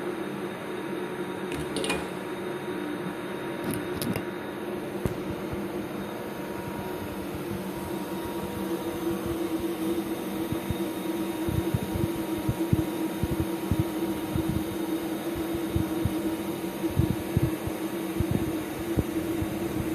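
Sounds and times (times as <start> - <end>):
welder machine hum: 0.8 - 19.9.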